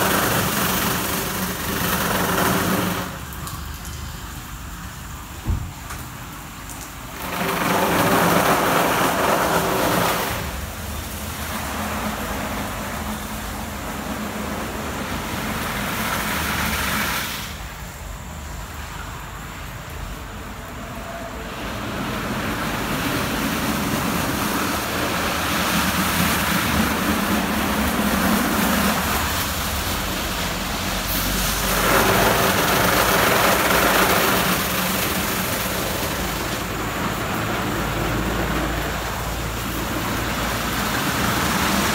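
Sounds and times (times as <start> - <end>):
water spray: 0.0 - 19.2, 19.8 - 41.9
car wash motors: 0.0 - 41.9.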